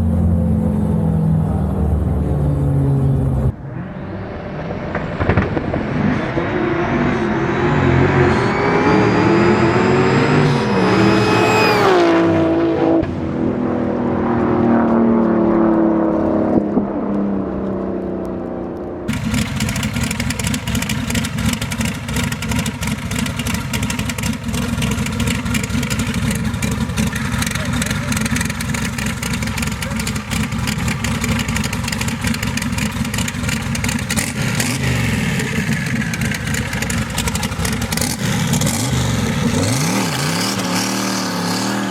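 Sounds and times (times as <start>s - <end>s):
rough crackling engine rumble: 0.0s - 8.4s, 12.9s - 41.9s
race car engines at full throttle: 0.0s - 41.9s.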